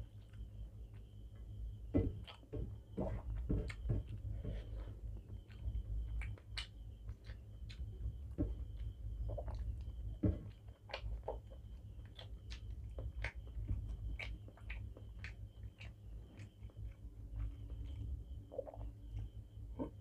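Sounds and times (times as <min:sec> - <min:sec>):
steady low hum: 0:00.0 - 0:20.0
lip smacks and chewing: 0:02.2 - 0:20.0.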